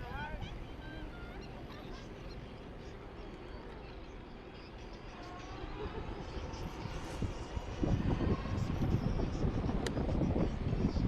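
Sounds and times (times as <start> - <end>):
low rumble of wind: 0.0 - 11.0.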